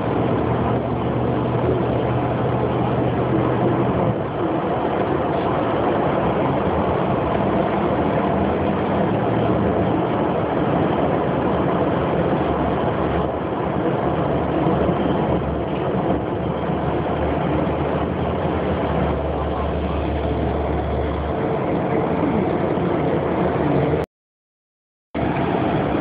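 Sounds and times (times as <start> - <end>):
vehicle engine and road noise: 0.0 - 24.1, 25.2 - 26.0.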